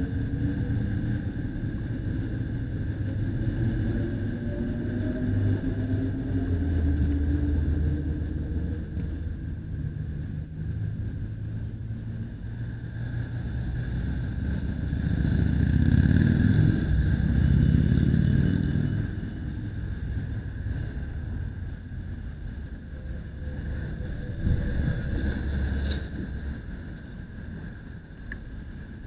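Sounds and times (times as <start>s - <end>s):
traffic engine and tyre rumble: 0.0s - 29.0s.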